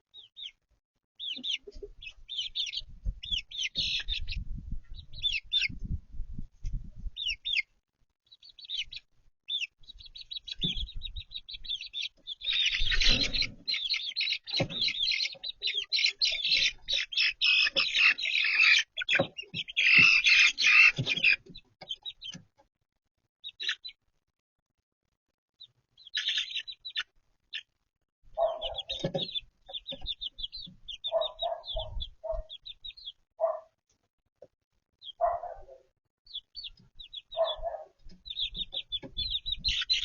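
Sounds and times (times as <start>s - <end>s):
chicks peeping: 0.1s - 0.6s, 1.2s - 22.7s, 23.4s - 24.0s, 25.6s - 33.8s, 34.4s - 40.0s.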